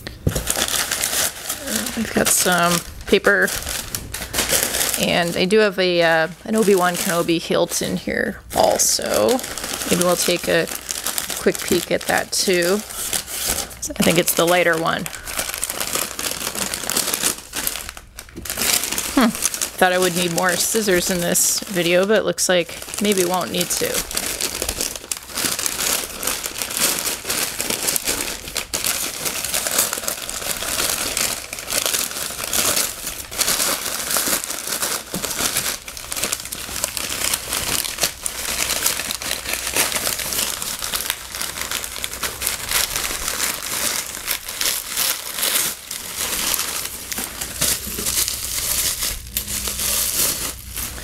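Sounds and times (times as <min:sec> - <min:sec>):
paper packing material crumpling: 0:00.0 - 0:51.0.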